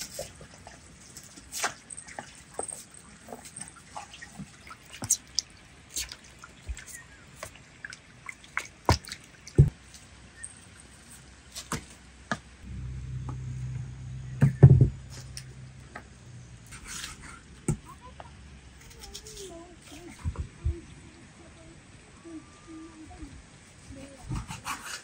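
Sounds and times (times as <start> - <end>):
low steady hum: 1.9 - 24.2.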